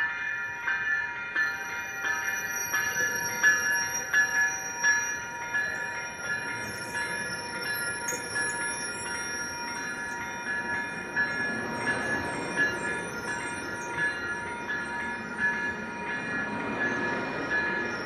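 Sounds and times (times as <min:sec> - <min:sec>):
crossing bell ringing: 0:00.0 - 0:18.0
train rumble: 0:00.0 - 0:18.0
train wheels squealing on rails: 0:00.0 - 0:18.0.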